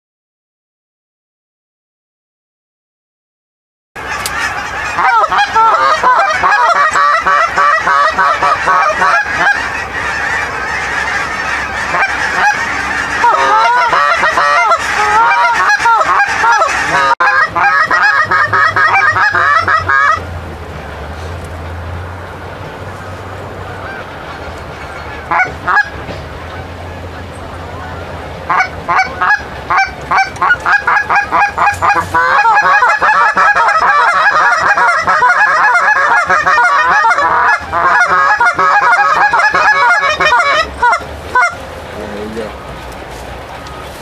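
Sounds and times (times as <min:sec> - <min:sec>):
goose honking and clucking: 0:04.0 - 0:44.0.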